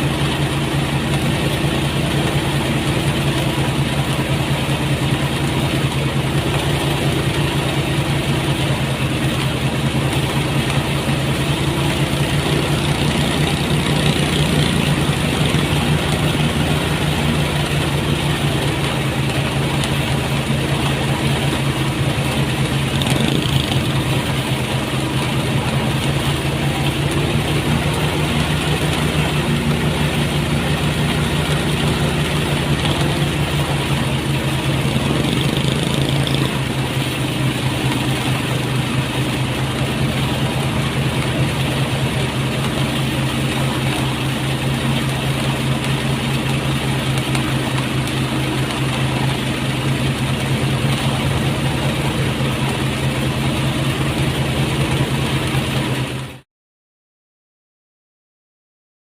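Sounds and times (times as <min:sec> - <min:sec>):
rice thresher engine drone and rattle: 0:00.0 - 0:56.4.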